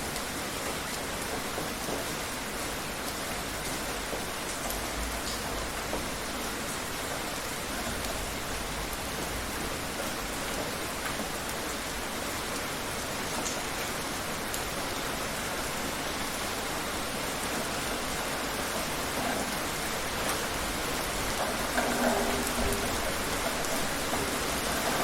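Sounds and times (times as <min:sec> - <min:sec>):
raindrop ticks: 0:00.0 - 0:14.8, 0:16.0 - 0:25.0
rain pattering on surfaces: 0:00.0 - 0:25.0.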